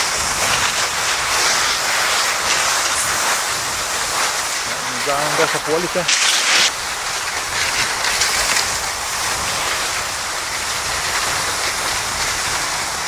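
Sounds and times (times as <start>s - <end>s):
skis sliding over snow: 0.0s - 13.0s.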